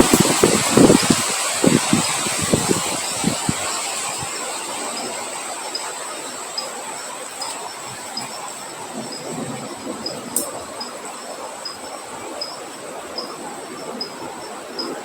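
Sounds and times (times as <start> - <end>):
wind blowing: 0.0 - 15.0
wind buffeting microphone: 0.0 - 15.0.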